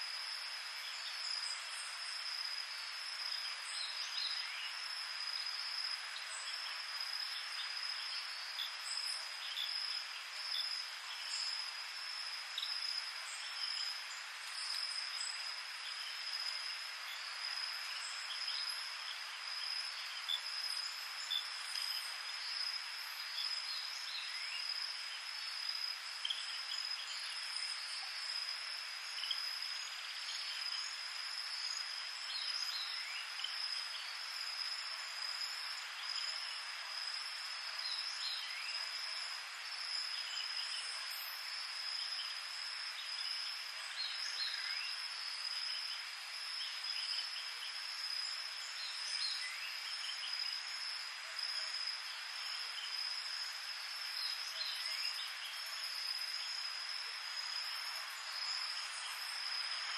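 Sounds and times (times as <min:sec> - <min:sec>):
crickets trilling: 0:00.0 - 0:59.9
insects buzzing: 0:00.1 - 0:59.9.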